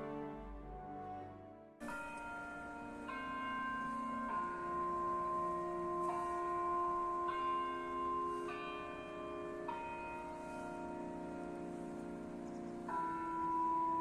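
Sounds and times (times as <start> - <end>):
bell chimes playing melody: 1.8 - 14.0.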